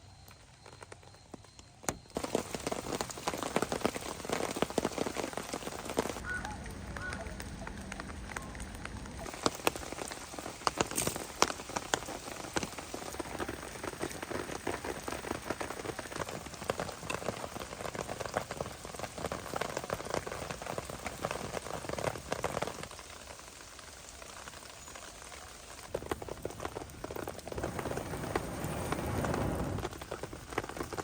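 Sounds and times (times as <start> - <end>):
raindrops ticking: 0.0 - 31.0
steady rain hiss: 0.0 - 31.0.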